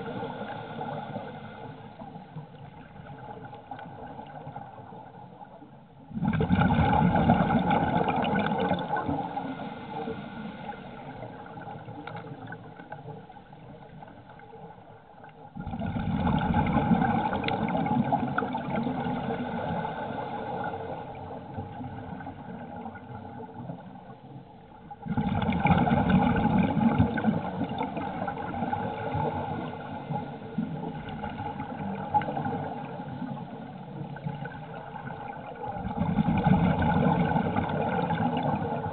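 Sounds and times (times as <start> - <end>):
faint hum: 0.0 - 38.9.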